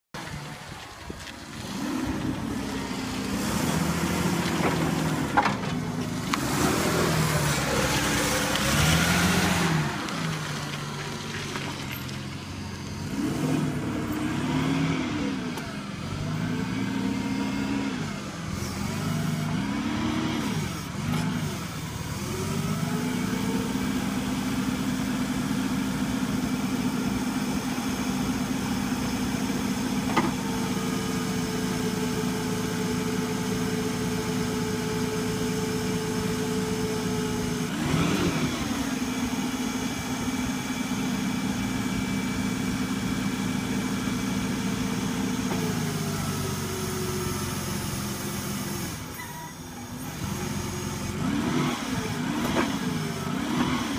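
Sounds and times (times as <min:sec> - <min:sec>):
forklift engine revving: 0:01.6 - 0:53.9.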